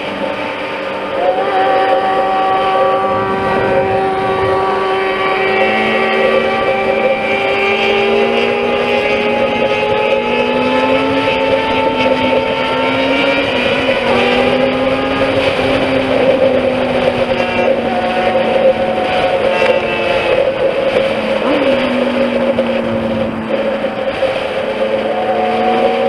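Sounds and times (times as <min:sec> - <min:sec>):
motorcycle engines at highway speed: 0:00.0 - 0:26.0.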